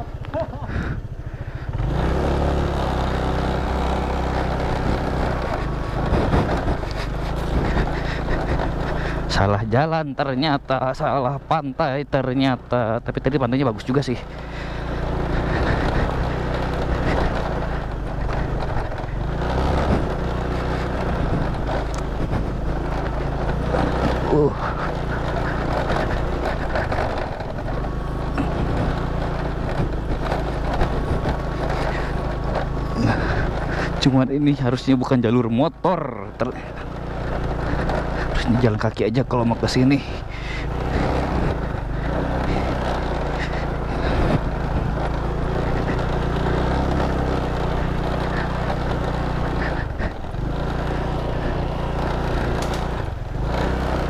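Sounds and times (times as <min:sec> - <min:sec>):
motor scooter engine revving: 0:00.0 - 0:54.0
knocks and rattles: 0:02.9 - 0:09.9, 0:12.6 - 0:54.0.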